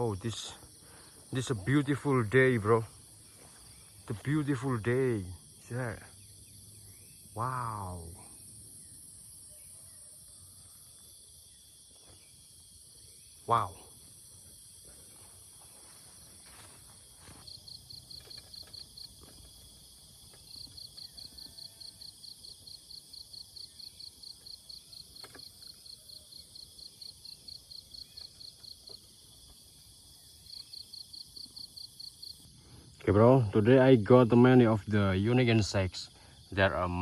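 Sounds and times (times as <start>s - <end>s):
cricket chirping: 0.0s - 37.0s
high hiss of insects: 0.0s - 37.0s.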